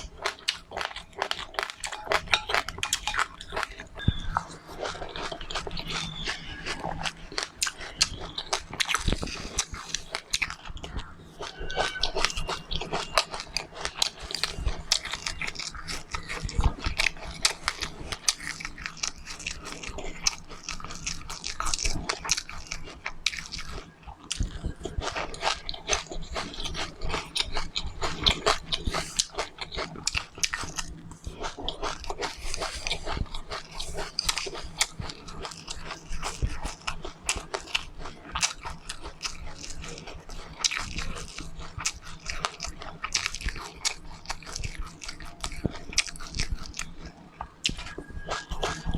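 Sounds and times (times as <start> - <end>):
person chewing crunchy seeds: 0.0 - 48.9.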